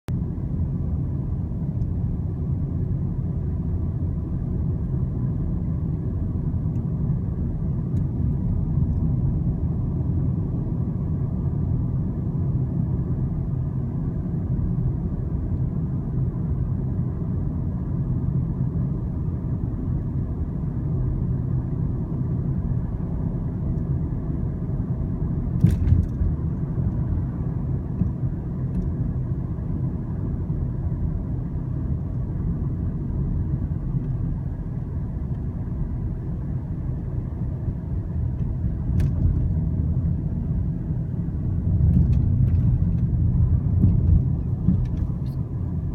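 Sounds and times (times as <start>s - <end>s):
steady low rumble: 0.1s - 45.9s.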